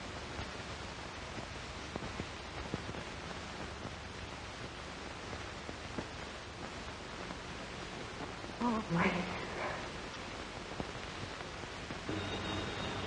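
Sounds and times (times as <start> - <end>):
faint clicks and crackles: 0.0 - 13.0
film soundtrack hiss: 0.0 - 13.0.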